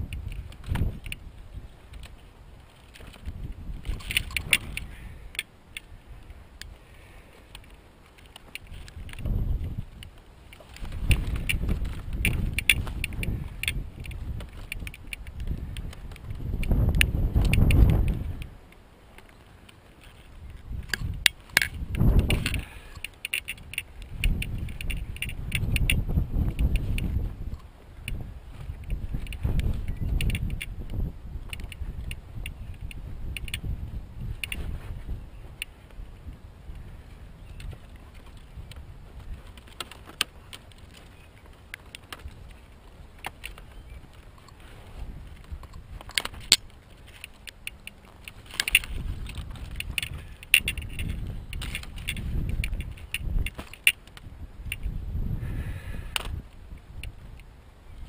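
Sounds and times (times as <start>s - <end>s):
sharp clicks and snaps: 0.0s - 1.3s, 2.9s - 6.8s, 7.4s - 34.8s, 37.5s - 44.6s, 45.3s - 54.9s, 56.1s - 57.5s
branches rustling: 0.0s - 58.0s
wood scraping against twigs: 0.0s - 58.0s.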